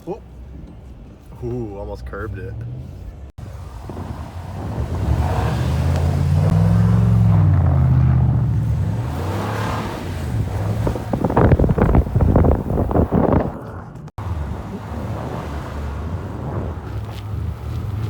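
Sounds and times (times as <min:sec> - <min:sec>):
truck engine revving: 0:02.0 - 0:18.0.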